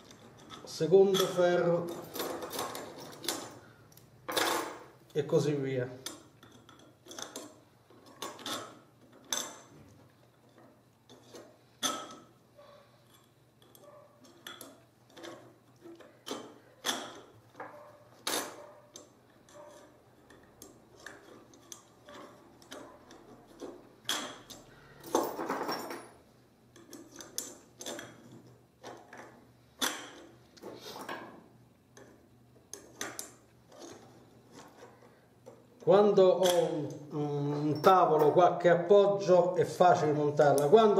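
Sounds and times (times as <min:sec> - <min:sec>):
metal rods clinking and scraping: 0:00.0 - 0:31.4, 0:32.0 - 0:38.6.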